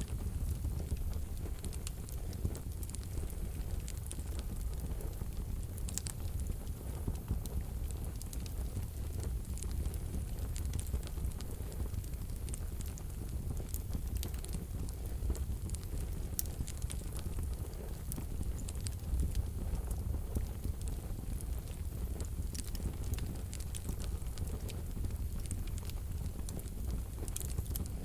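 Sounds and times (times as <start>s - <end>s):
fire crackles and pops: 0.0s - 28.0s
low rumble of flames: 0.0s - 28.0s.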